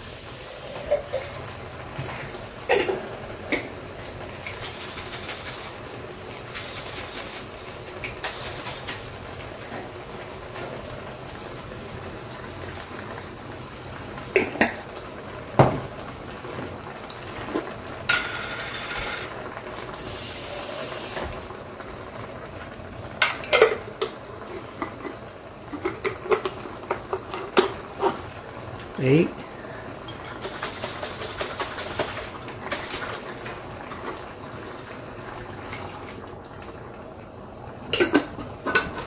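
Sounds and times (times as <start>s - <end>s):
low cooking hiss: 0.0s - 39.0s.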